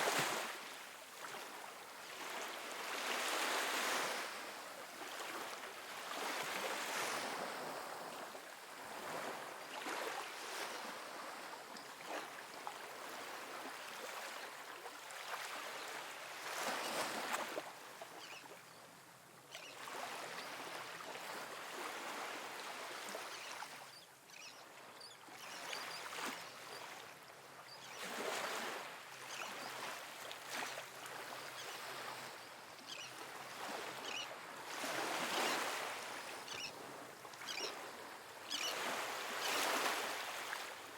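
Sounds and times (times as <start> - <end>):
soft ocean waves on beach: 0.0 - 40.9.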